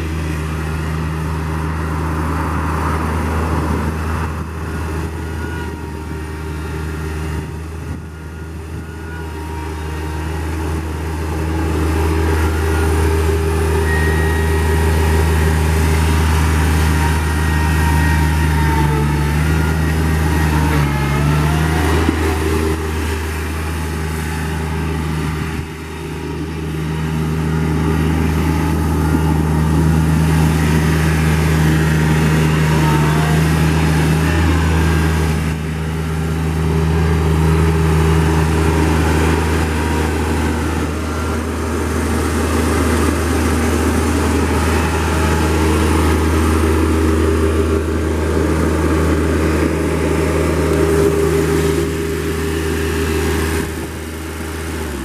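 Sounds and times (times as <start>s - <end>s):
mower diesel engine running: 0.0s - 55.0s.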